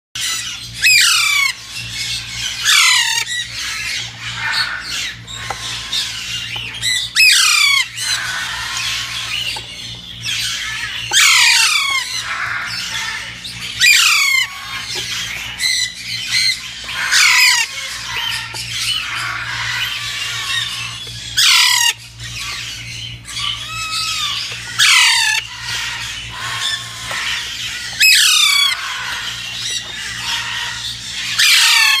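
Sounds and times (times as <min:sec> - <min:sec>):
parrots chattering: 0:00.2 - 0:32.0
parrots squawking: 0:00.2 - 0:32.0.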